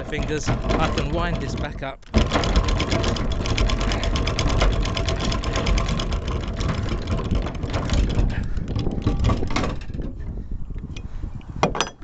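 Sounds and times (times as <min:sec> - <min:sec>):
anchor windlass rapid clicking: 0:00.0 - 0:11.6.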